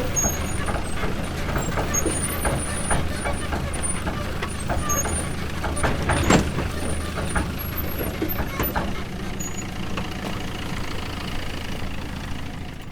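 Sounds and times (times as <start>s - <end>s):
loud metal clank: 0.0s - 10.8s
knocks and rattles: 0.0s - 12.0s
tractor engine rumbling: 0.0s - 12.9s.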